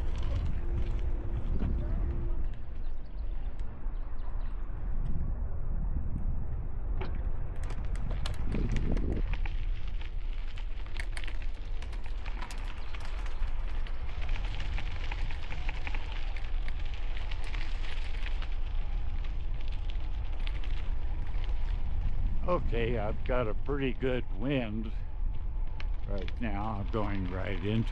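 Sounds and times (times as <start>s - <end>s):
bicycle tyres on gravel: 0.0s - 5.6s, 6.3s - 27.9s
wind buffeting microphone: 0.0s - 27.9s.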